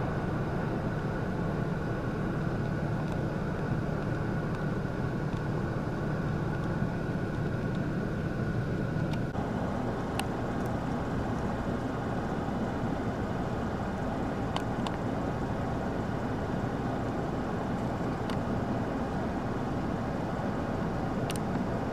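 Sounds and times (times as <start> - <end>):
low vehicle rumble: 0.0 - 21.9.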